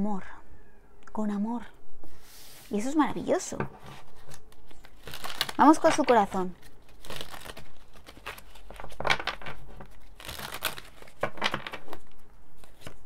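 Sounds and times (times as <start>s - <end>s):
cards being shuffled: 2.2s - 13.0s.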